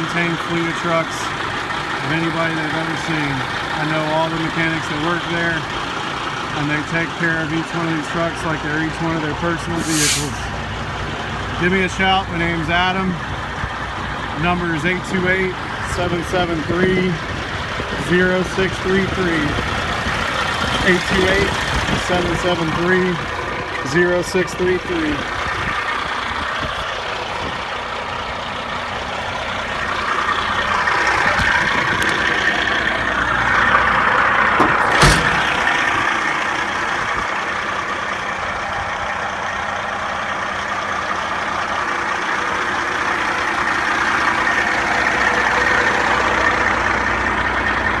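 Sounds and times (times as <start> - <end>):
diesel truck idling: 0.0 - 48.0.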